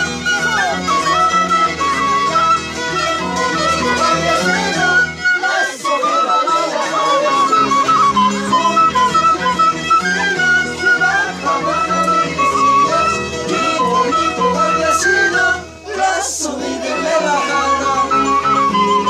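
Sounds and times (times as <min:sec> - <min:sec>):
violins playing folk tune: 0:00.0 - 0:19.0.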